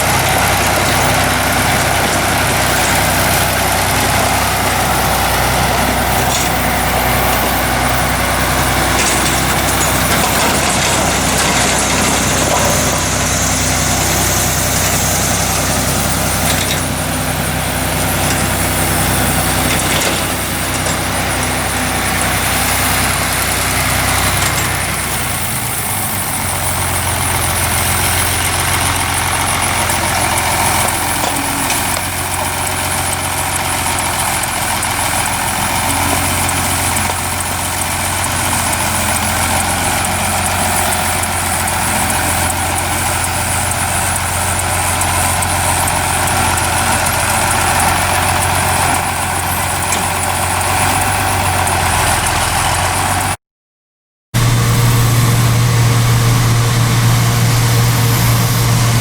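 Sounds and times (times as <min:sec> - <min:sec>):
heavy vehicle engine running: 0:00.0 - 0:53.4, 0:54.4 - 0:59.0.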